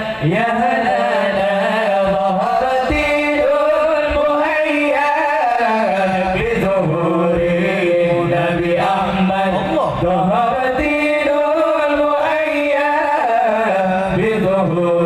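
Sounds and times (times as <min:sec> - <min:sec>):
young men singing devotional song: 0:00.0 - 0:15.0.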